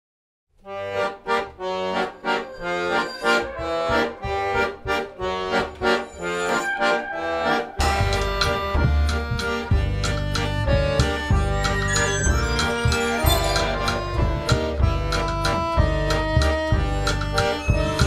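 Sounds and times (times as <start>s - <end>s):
lively accordion music: 0.6s - 18.0s.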